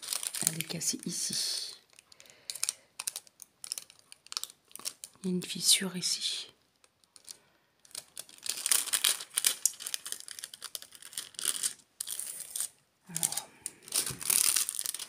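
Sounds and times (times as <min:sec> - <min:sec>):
plastic film crackling and tearing: 0:00.0 - 0:05.2, 0:06.8 - 0:15.0.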